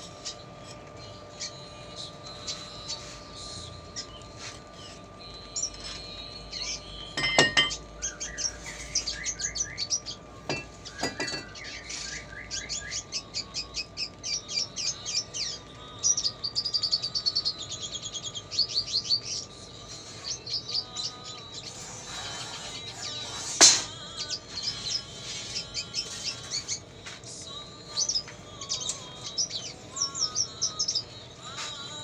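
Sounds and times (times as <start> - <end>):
bird singing high twittering chirps: 1.0 - 26.9, 27.5 - 32.0.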